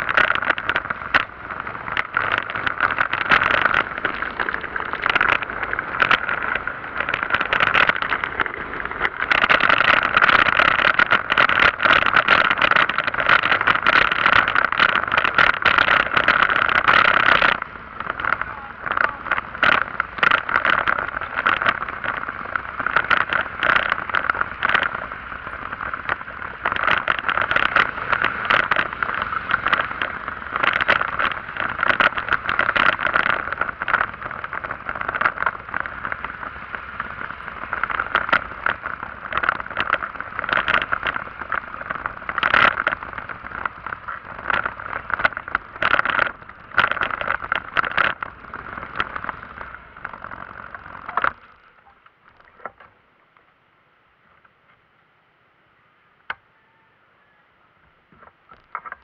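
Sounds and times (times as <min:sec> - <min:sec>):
vehicle running: 0:00.0 - 0:53.0
faint ticks: 0:00.0 - 0:53.5, 0:56.2 - 0:59.0.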